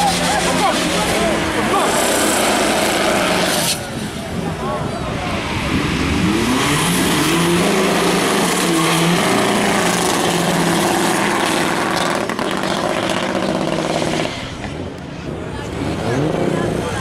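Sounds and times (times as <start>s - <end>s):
car engine at high revs: 0.0s - 4.0s, 5.4s - 17.0s
wide rushing noise: 0.0s - 17.0s.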